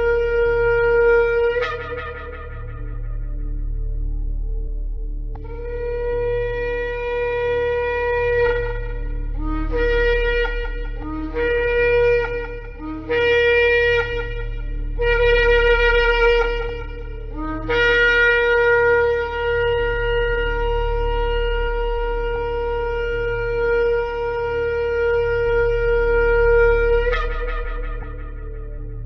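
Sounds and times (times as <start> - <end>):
ram's horn blowing: 0.0 - 4.6, 5.4 - 29.0
low hum: 0.0 - 29.0.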